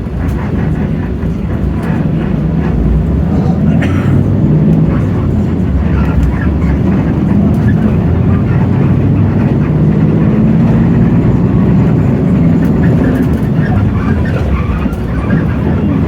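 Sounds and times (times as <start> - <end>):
bus engine hum: 0.0 - 16.0.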